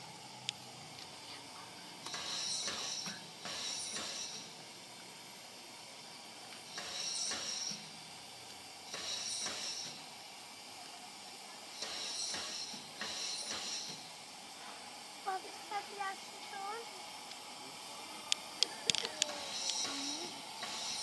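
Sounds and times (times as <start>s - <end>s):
steady soft steam hiss: 0.0s - 21.0s
steam locomotive hissing bursts: 0.0s - 21.0s.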